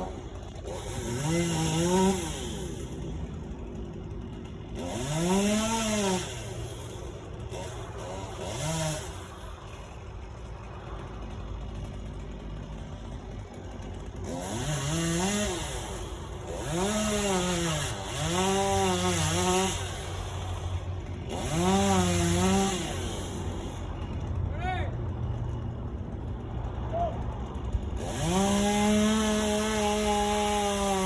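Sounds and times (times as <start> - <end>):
chainsaw idling and revving: 0.0 - 31.0.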